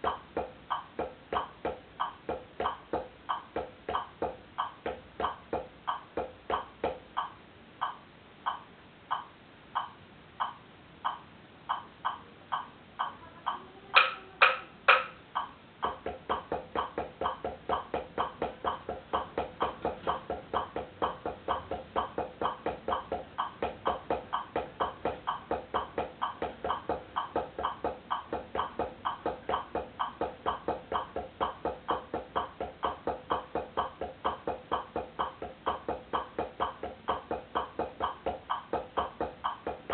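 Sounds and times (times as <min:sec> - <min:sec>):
drum sticks striking a board: 0:00.0 - 0:39.9.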